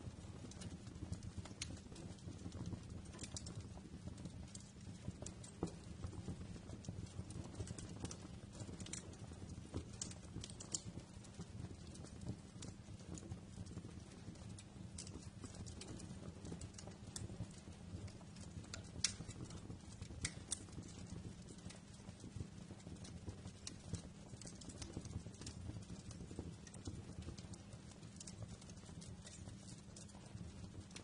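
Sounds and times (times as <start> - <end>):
fire popping and snapping: 0.0 - 31.0
low rumble of flames: 0.0 - 31.0.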